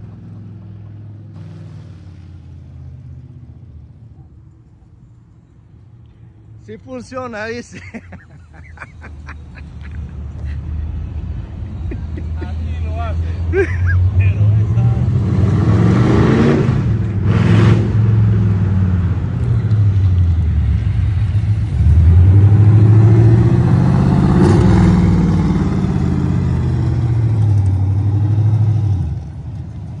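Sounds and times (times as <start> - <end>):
loud car engine driving past: 0.0 - 5.2, 9.0 - 30.0.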